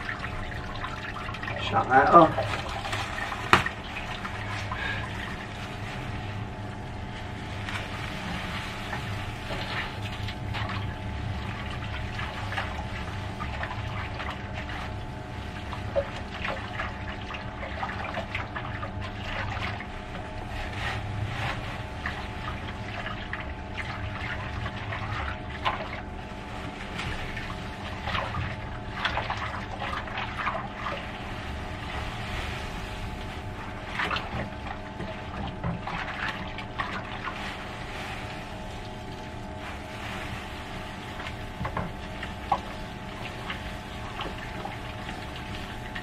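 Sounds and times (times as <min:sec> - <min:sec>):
plastic bag rustling: 0:00.0 - 0:13.6, 0:19.6 - 0:23.3, 0:25.9 - 0:46.0
background hum: 0:00.0 - 0:46.0
grain pouring into water: 0:00.0 - 0:46.0.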